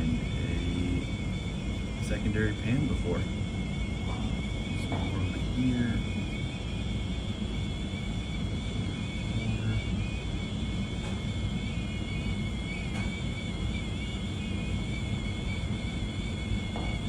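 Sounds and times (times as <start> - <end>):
high-pitched wavering whine: 0.0 - 17.0
hvac equipment rumbling: 0.0 - 17.0.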